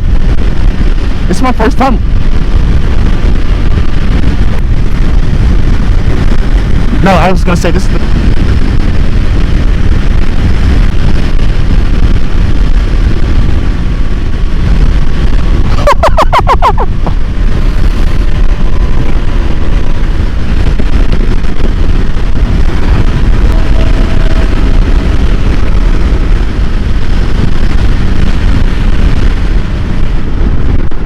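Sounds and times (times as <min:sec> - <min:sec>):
motorcycle engine running: 0:00.0 - 0:31.0
wind and road rumble: 0:00.0 - 0:31.0.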